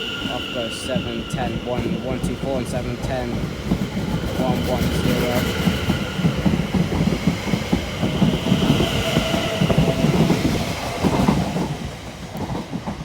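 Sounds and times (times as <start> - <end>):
train wheels clattering: 0.0 - 13.0.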